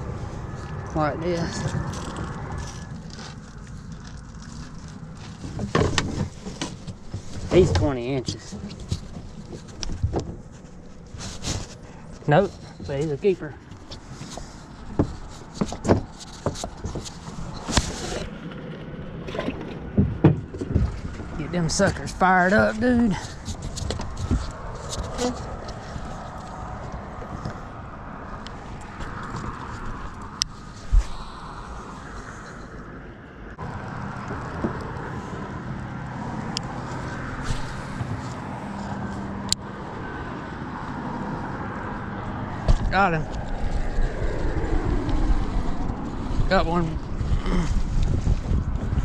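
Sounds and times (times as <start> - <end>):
road traffic hum: 0.0 - 49.0.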